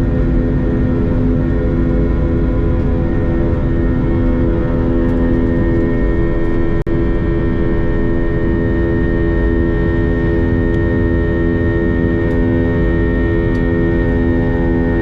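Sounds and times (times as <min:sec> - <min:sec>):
airplane cabin drone: 0:00.0 - 0:15.0.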